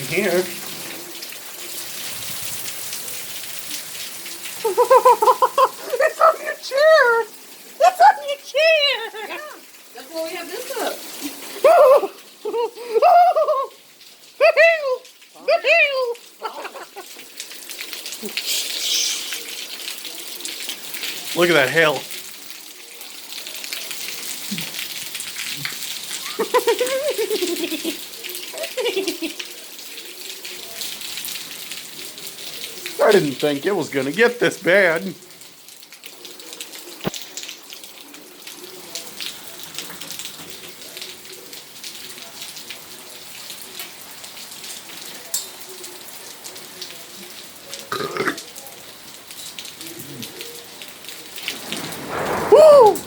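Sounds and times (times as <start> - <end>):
hailstones hitting the ground: 0.0 - 53.0.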